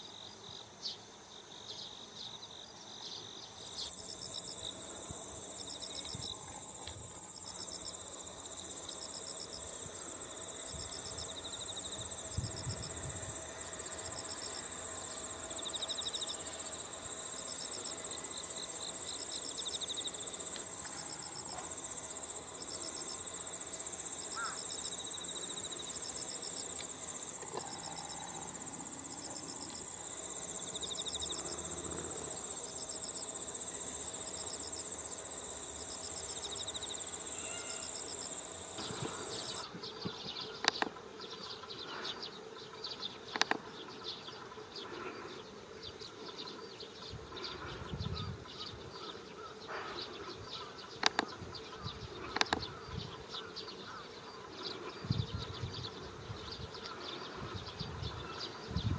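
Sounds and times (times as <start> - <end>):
insects trilling: 0.0 - 58.9
pulsed insect chirps: 1.6 - 58.9.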